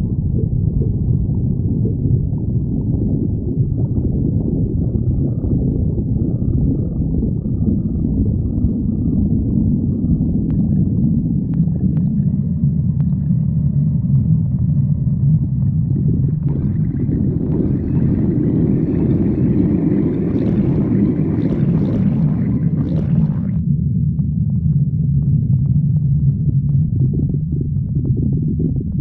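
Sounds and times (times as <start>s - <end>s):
stomach growling: 0.0s - 29.0s.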